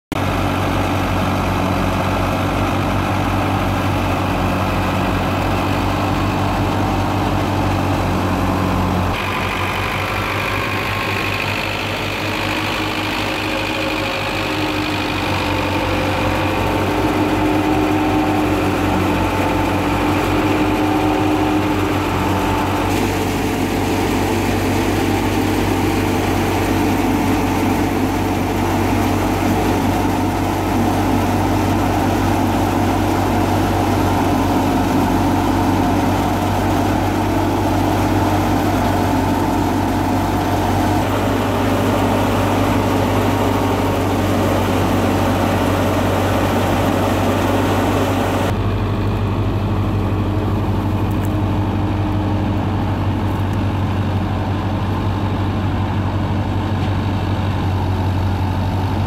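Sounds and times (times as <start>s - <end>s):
tractor diesel engine running: 0.1s - 59.0s
thresher drum whirring: 0.2s - 59.0s.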